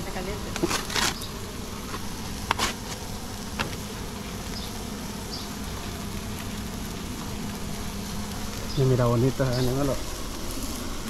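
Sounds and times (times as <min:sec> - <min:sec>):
steady buzzing drone: 0:00.0 - 0:11.0.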